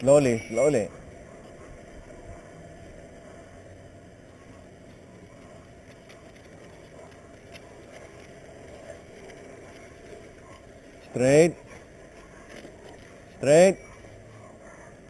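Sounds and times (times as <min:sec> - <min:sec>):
bicycle tyres and wind rumble: 0:00.0 - 0:15.0.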